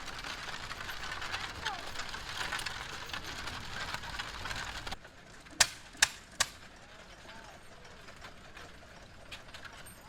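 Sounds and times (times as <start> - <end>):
busy outdoor background noise: 0.0 - 10.0.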